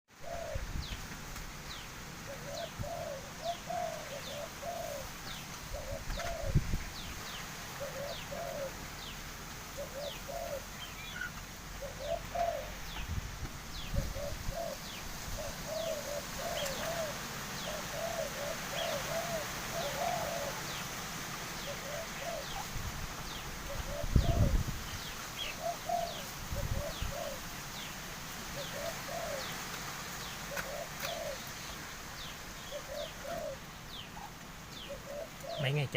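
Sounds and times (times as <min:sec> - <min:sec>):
dove cooing: 0:00.1 - 0:00.9, 0:02.2 - 0:13.0, 0:13.7 - 0:35.9.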